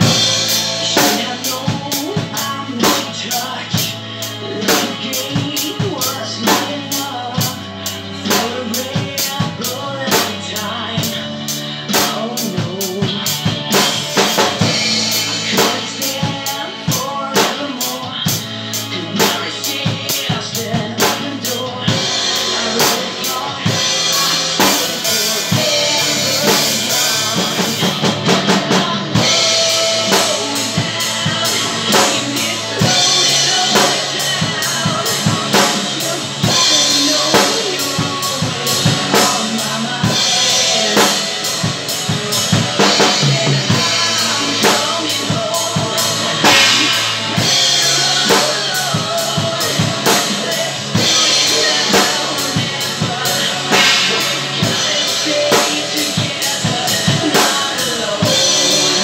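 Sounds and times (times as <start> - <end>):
drum kit playing: 0.0 - 59.0
rock backing track guitars: 0.0 - 59.0.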